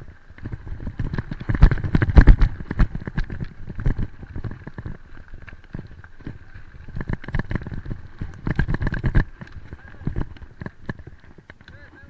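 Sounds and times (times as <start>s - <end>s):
bicycle knocking and rattling: 0.0s - 12.0s.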